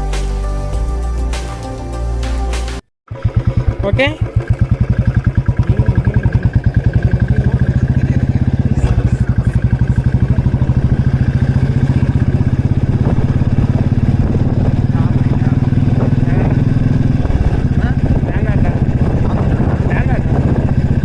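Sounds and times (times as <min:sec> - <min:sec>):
motorcycle engine running: 0:03.1 - 0:21.0.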